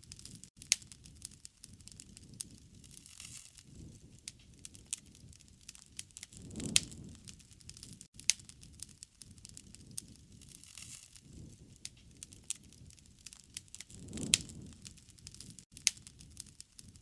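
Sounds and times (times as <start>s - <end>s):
campfire crackling: 0.0s - 17.0s
low rush of flame: 0.0s - 17.0s
sharp pops of burning wood: 0.0s - 17.0s.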